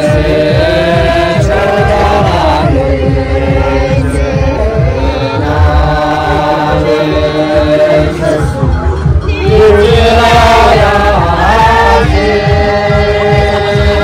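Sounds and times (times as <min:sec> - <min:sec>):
group chanting in unison: 0:00.0 - 0:14.0.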